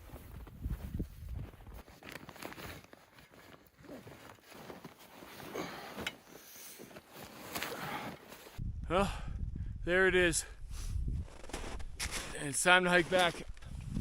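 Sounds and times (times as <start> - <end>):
rustling and crunching in snow: 0.0 - 8.6, 10.8 - 14.0.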